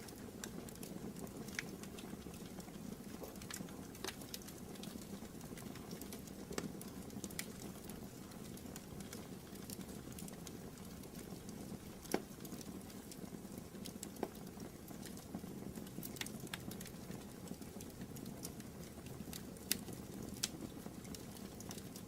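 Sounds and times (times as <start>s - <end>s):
fire crackling and popping: 0.0s - 22.0s
low rumble of flames: 0.1s - 22.0s.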